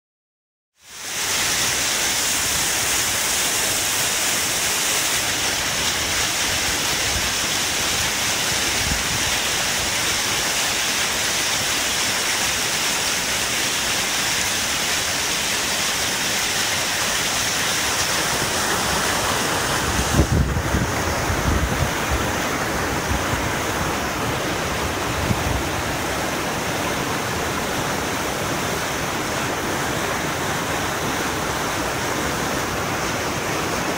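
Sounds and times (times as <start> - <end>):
water rushing over rocks: 0.8 - 33.9.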